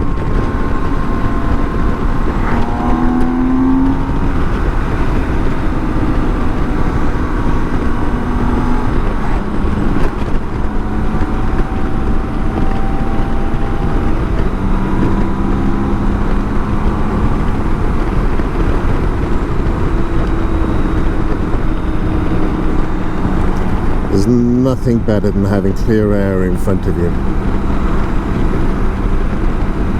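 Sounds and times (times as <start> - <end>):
motorcycle engine running: 0.0 - 29.9
road noise rushing: 0.0 - 29.9.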